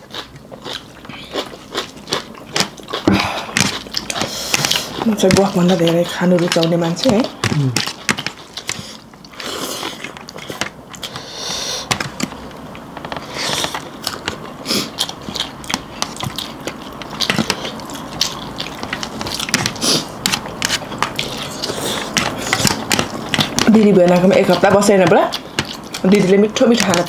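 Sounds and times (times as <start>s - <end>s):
chewing and crunching: 0.0s - 27.0s.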